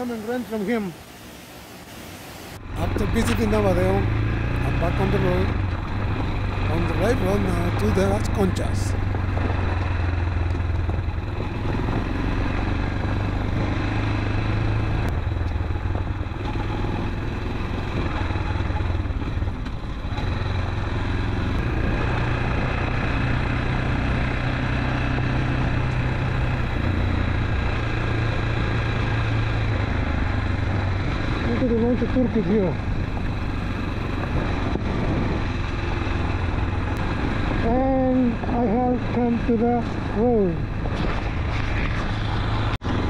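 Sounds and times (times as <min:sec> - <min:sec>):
road and wind noise: 0:00.0 - 0:43.0
motorcycle engine running: 0:02.6 - 0:43.0.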